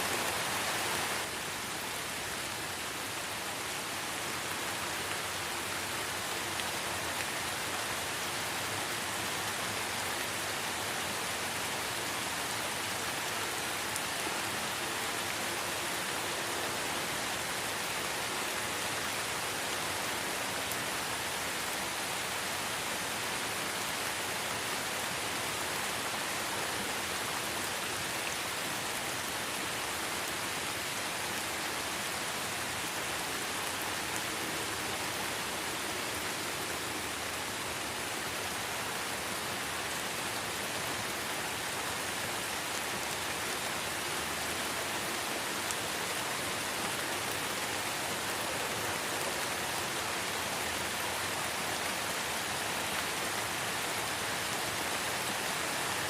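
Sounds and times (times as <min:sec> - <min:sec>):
light rain hissing: 0:00.0 - 0:56.0.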